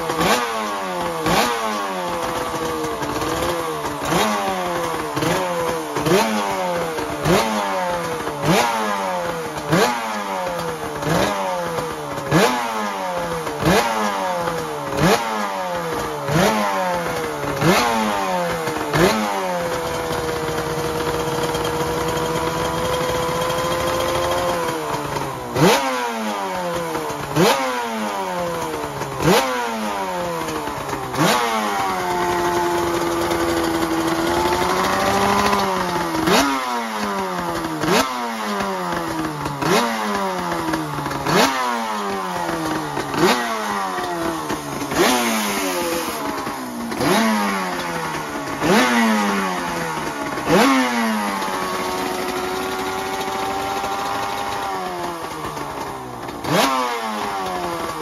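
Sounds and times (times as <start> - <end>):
racing engine revving and idling: 0.0 - 58.0.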